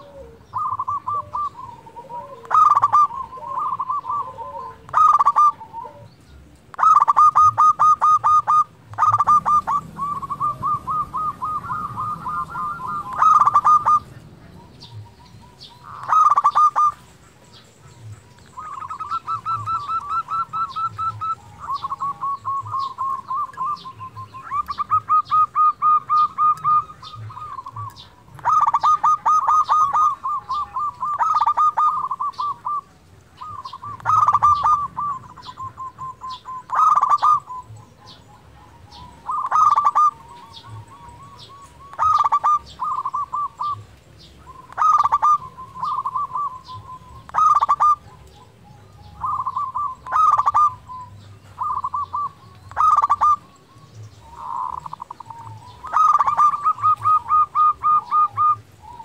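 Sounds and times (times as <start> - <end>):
dove cooing song: 0.0 - 59.0.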